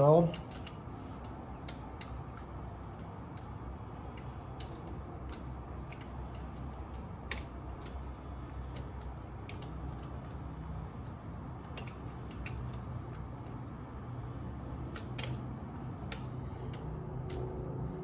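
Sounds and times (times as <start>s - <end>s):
ratchet wrench clicking: 0.0s - 13.6s, 14.8s - 17.8s.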